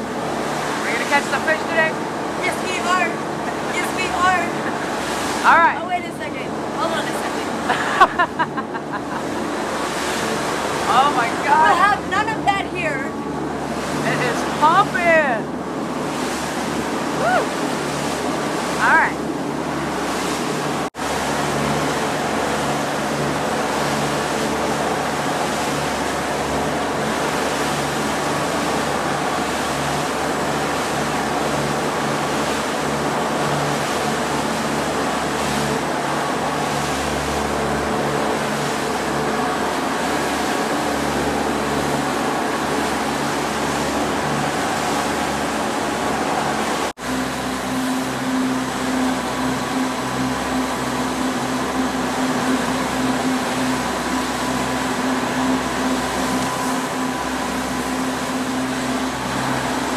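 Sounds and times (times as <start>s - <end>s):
boat engines droning: 0.0s - 59.9s
rushing wind: 0.0s - 59.9s
water rushing: 0.0s - 59.9s.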